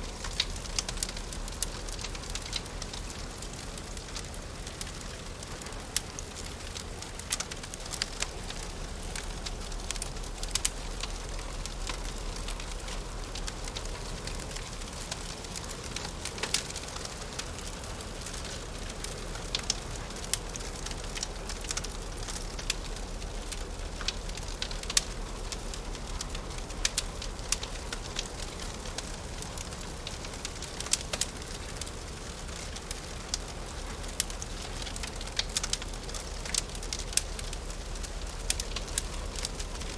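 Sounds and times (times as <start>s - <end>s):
fireplace crackling and popping: 0.0s - 39.9s.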